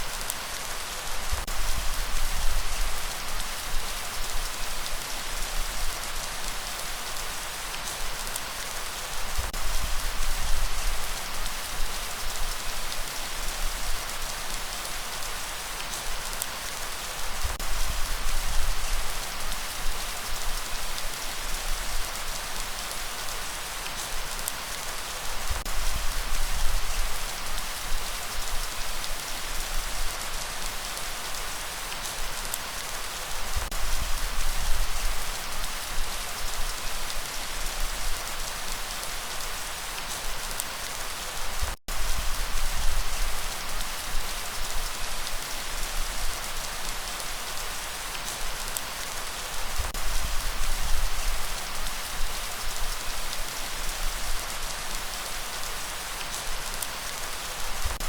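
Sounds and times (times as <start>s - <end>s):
light rain hiss: 0.0s - 58.0s.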